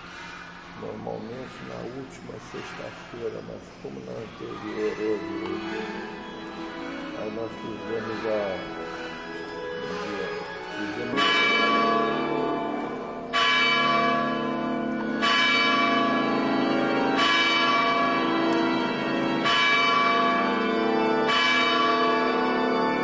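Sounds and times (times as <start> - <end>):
church bell tolling: 0.0 - 23.0.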